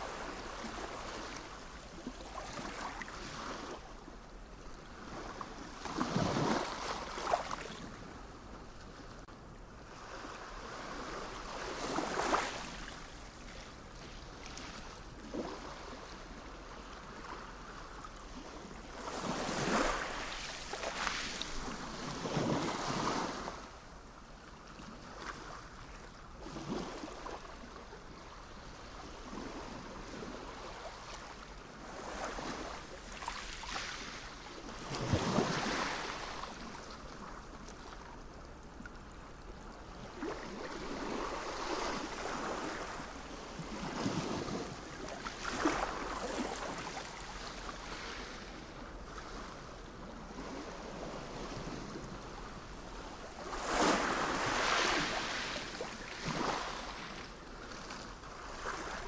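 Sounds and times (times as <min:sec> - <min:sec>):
sea waves breaking on shore: 0:00.0 - 0:09.3, 0:09.9 - 0:23.8, 0:25.1 - 0:38.4, 0:39.0 - 0:59.0.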